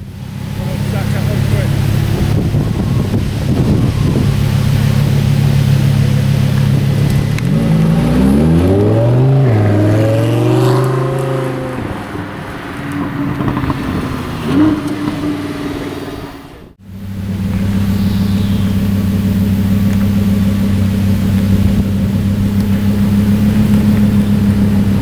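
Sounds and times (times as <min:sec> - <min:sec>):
engine revving: 0:00.0 - 0:25.0
sports car engine accelerating: 0:00.0 - 0:25.0.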